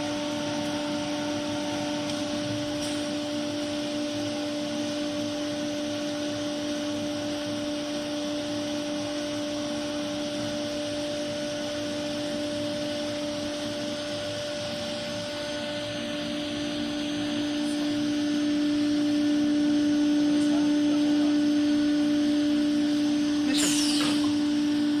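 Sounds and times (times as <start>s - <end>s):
router machine humming: 0.0s - 25.0s.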